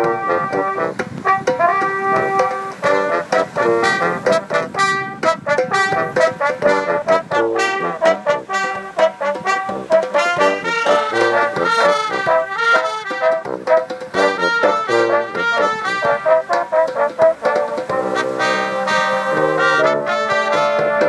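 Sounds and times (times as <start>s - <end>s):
brass band playing: 0.0s - 21.0s
hand drum beating: 0.0s - 21.0s.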